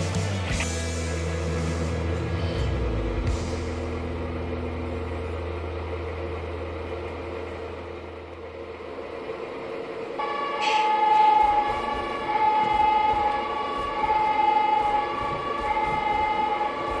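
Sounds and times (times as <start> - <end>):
motor-like drone: 0.5 - 17.0
high steady tone: 2.8 - 17.0.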